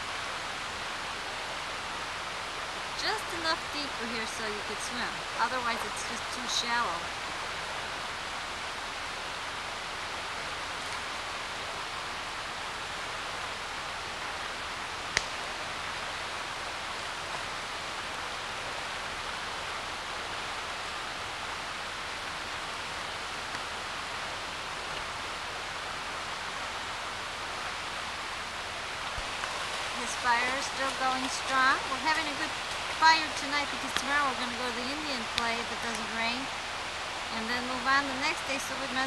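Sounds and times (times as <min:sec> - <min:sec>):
creek rushing: 0:00.0 - 0:39.0.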